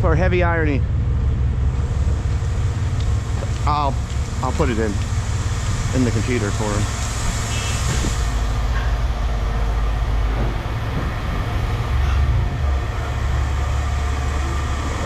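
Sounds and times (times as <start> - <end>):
large vehicle engine rumbling: 0.0 - 15.0.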